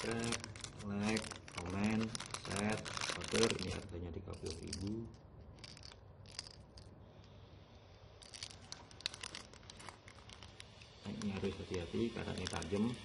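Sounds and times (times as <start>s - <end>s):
plastic packaging crinkling: 0.0s - 7.0s, 8.1s - 13.0s.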